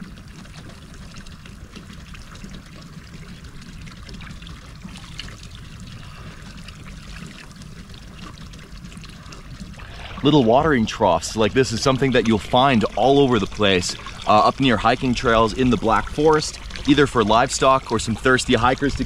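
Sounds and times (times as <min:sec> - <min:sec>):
water trickling into trough: 0:00.0 - 0:19.0.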